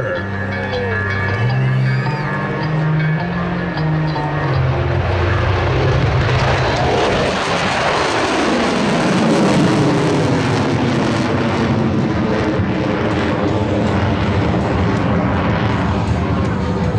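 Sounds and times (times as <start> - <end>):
jet flying past: 3.2 - 16.9.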